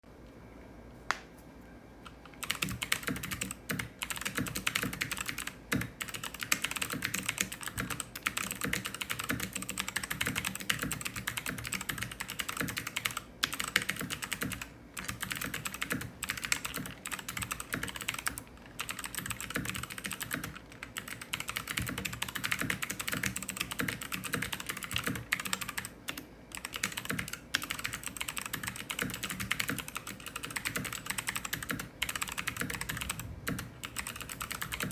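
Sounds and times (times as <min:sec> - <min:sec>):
clicky mechanical keyboard typing: 0:02.0 - 0:34.9.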